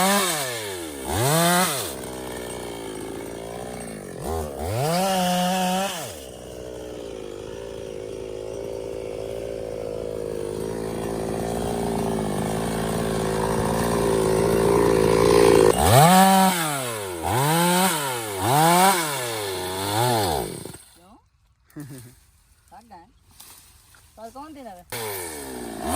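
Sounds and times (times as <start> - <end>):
chainsaw running and revving: 0.0 - 21.2, 24.9 - 25.9.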